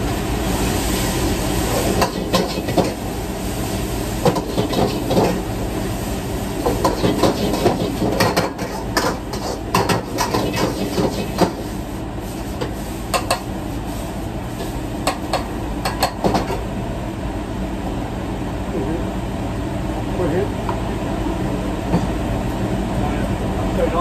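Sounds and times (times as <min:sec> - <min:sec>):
wok burner and exhaust hood running: 0:00.0 - 0:24.0.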